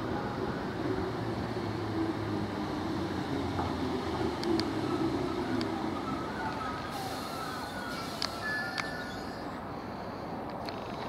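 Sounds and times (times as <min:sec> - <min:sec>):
electric train rumbling: 0:00.0 - 0:09.9.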